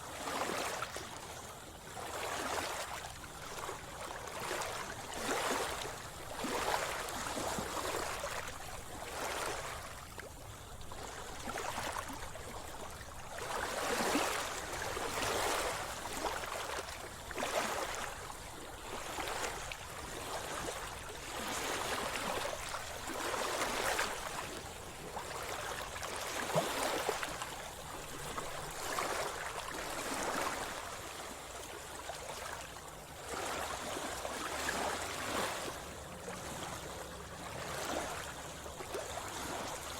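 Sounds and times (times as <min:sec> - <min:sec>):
water splashing around swimmer: 0:00.1 - 0:39.9.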